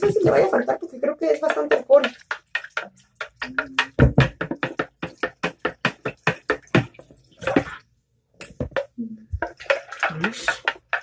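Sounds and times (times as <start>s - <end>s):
liquid splashing: 0.0s - 11.0s
wooden spoon clacking on plastic: 1.2s - 7.8s, 8.4s - 11.0s.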